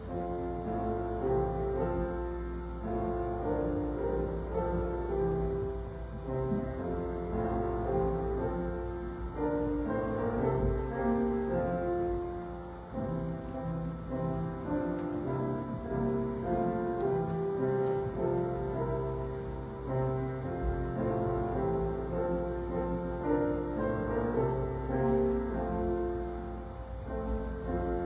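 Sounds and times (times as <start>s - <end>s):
slow keyboard church music: 0.0s - 28.0s.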